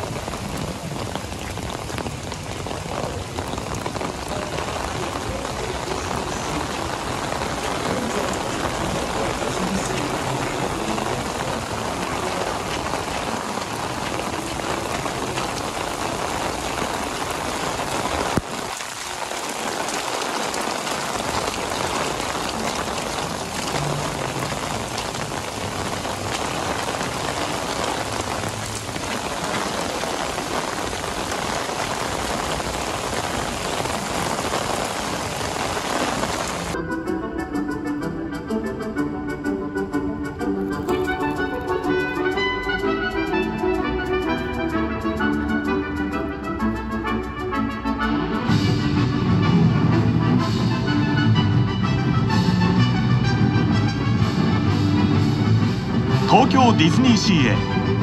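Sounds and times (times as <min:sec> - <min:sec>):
torrential rain: 0:00.0 - 0:36.8, 0:40.4 - 0:58.0.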